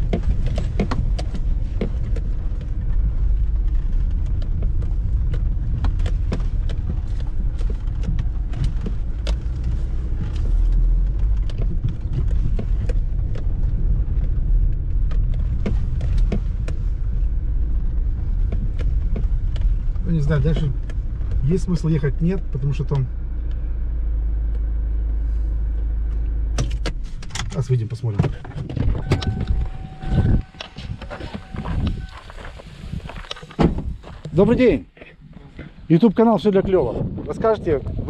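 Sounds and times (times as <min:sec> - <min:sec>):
engine and tyre rumble: 0:00.0 - 0:38.0
suspension knocks and rattles: 0:00.0 - 0:38.0.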